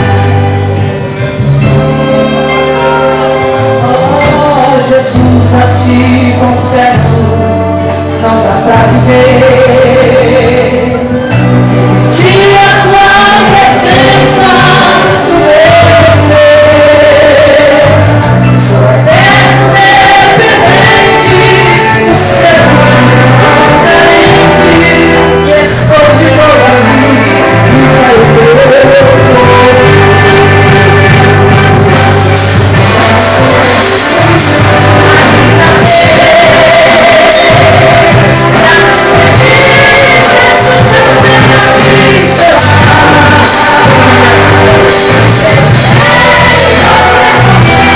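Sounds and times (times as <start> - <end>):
orchestra playing: 0.0 - 47.9
woman singing: 3.8 - 7.6, 8.2 - 11.4, 12.1 - 47.9.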